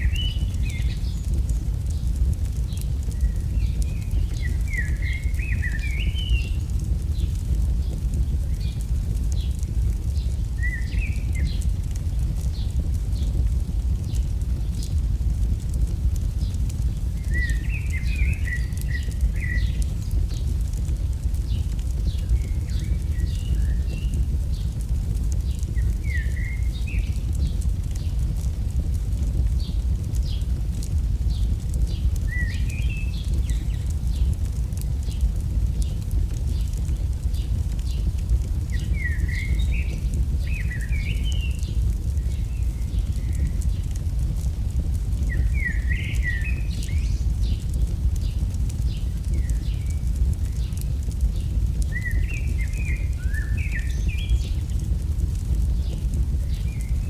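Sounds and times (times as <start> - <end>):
fire crackling: 0.0 - 57.0
low rumble: 0.0 - 57.0
small birds chirping: 0.0 - 57.0.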